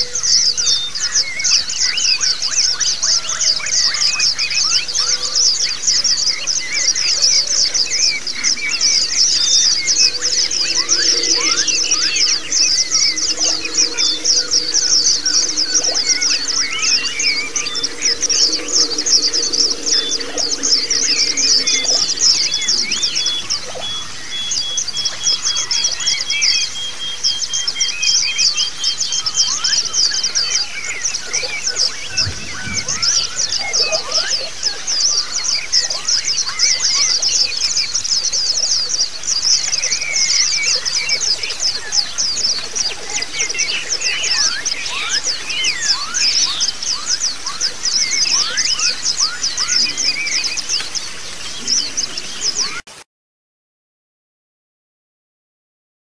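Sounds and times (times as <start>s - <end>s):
other birds chirping: 0.0s - 53.0s.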